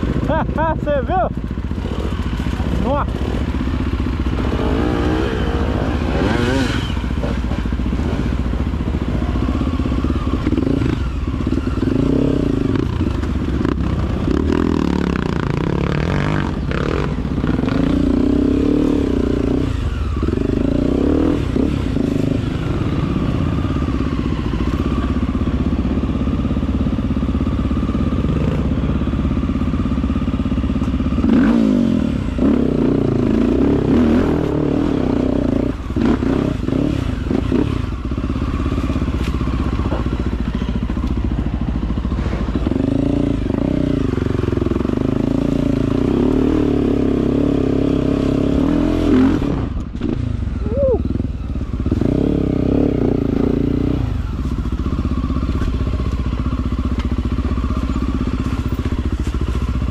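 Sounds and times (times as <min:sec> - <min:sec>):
dirt bike engine revving: 0:00.0 - 0:55.8.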